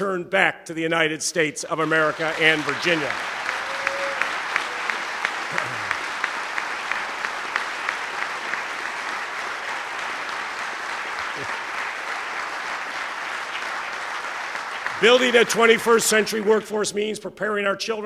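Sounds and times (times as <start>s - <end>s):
audience applauding: 1.7s - 16.7s.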